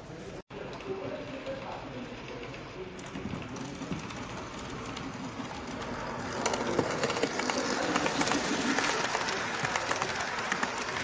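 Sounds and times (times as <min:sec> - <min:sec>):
model train wheels clicking: 0:00.6 - 0:11.0.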